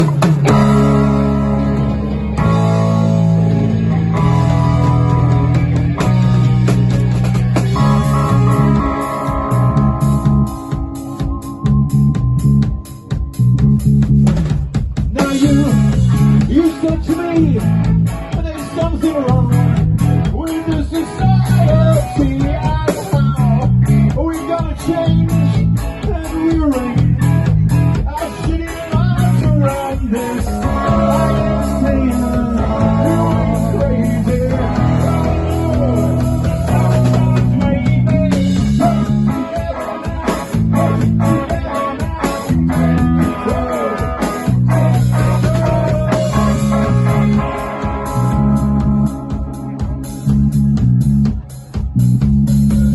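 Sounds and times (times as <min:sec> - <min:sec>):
bass guitar notes: 0:00.0 - 0:52.9
live rock band playing: 0:00.0 - 0:52.9.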